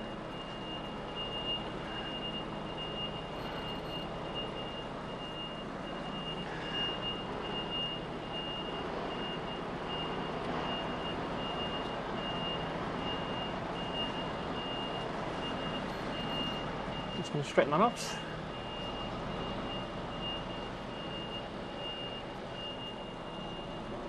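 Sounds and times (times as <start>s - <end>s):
lorry diesel engine running: 0.0s - 24.0s
reversing alarm beeps: 0.0s - 24.0s.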